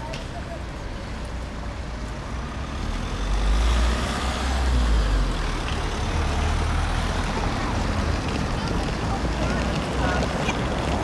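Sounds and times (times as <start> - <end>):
general traffic noise: 0.0 - 11.0.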